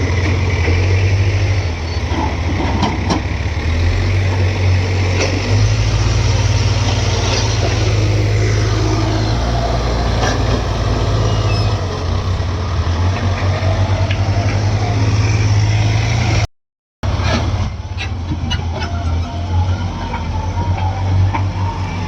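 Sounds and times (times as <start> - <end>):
engine knocks: 0.0 - 19.2
diesel engine running: 0.0 - 22.0.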